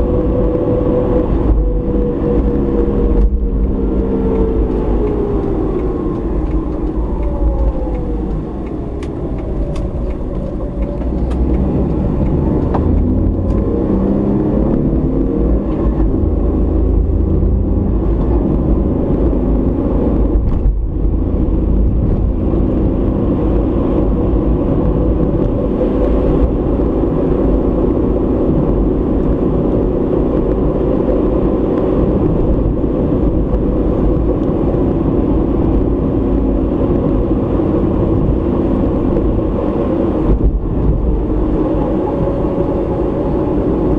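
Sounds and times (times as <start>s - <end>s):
car engine: 0.0s - 43.9s
tyre road noise: 0.0s - 43.9s.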